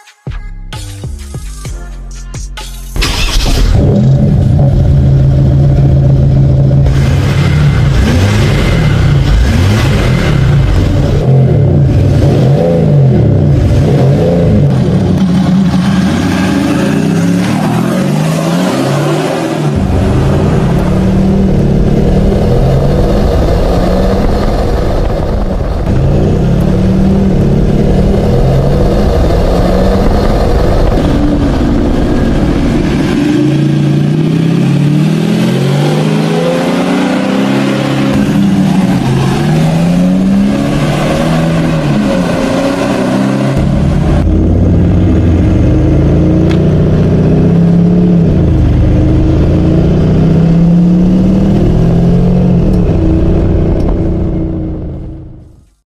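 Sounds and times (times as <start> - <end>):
diesel engine accelerating: 2.9 - 55.8.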